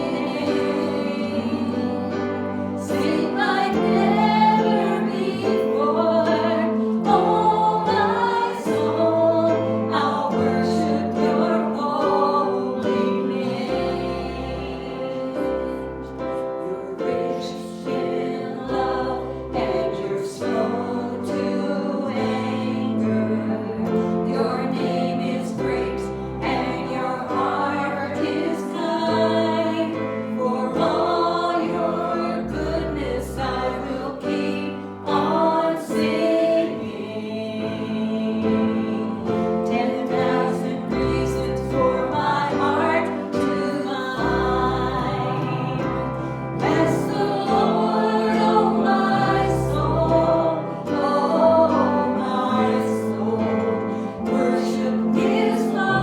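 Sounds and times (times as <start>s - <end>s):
group singing a gospel song: 0.0s - 56.0s
held instrumental chords: 0.0s - 56.0s.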